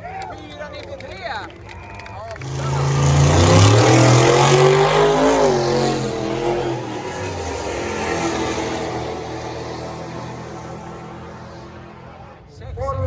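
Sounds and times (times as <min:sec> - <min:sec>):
drag car engine at full throttle: 0:02.3 - 0:13.0.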